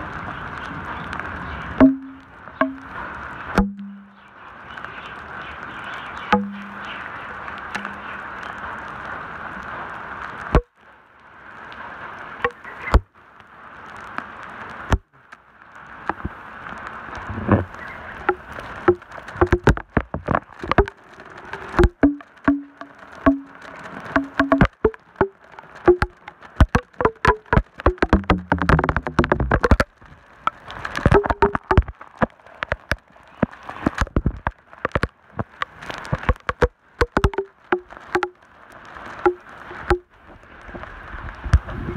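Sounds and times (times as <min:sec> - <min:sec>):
sharp taps of raindrops: 0:00.0 - 0:10.9, 0:11.5 - 0:41.9
heavy rain on flooded road: 0:00.0 - 0:41.9.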